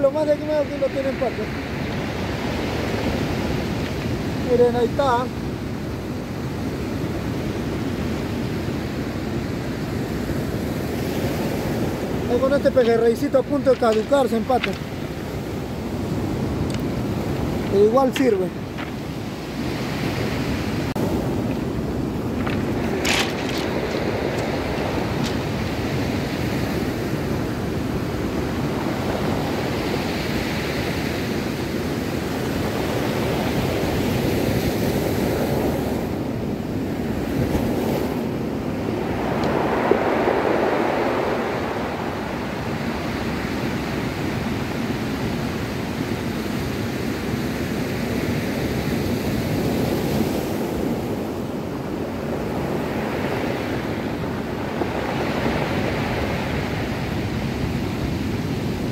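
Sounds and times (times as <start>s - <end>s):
surf washing over cobble beach: 0.0s - 58.9s.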